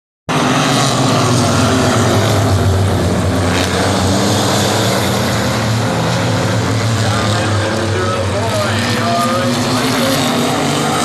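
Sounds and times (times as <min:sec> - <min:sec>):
race car engines droning: 0:00.3 - 0:11.0.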